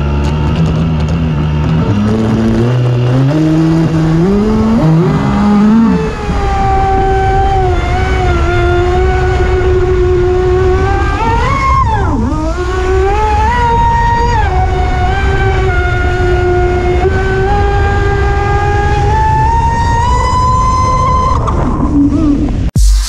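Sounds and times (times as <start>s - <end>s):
electric motor whining: 0.0s - 21.4s.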